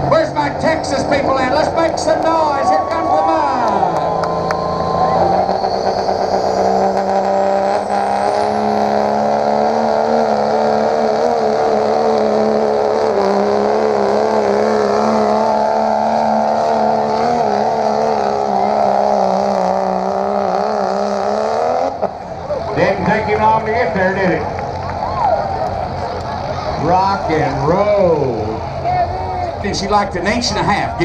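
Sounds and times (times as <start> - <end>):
truck engine at high revs: 0.0 - 31.0.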